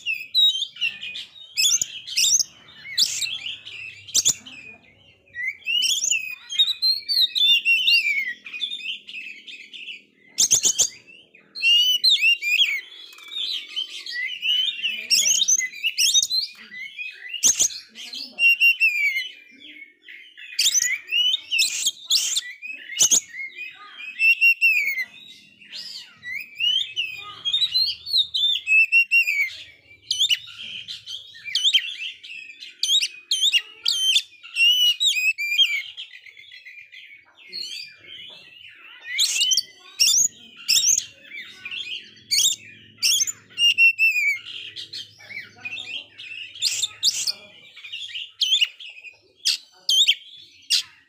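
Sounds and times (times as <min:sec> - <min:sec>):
bird singing whistled notes: 0:00.0 - 0:51.0.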